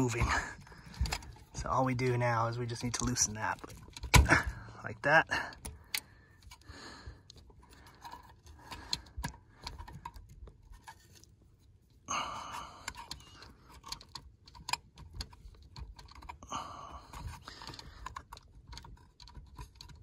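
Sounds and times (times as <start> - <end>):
metal clicks and scrapes: 0.0 - 11.8, 12.4 - 20.0.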